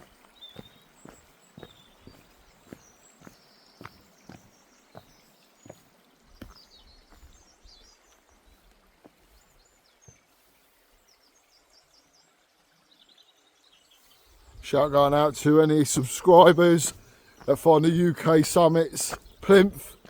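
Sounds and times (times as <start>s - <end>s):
footsteps on a woodland path: 0.0s - 10.9s, 14.2s - 20.0s
small birds chirping: 0.0s - 20.0s.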